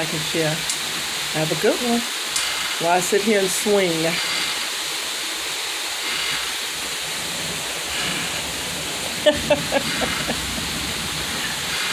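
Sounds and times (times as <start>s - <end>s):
heavy rain falling: 0.0s - 11.9s.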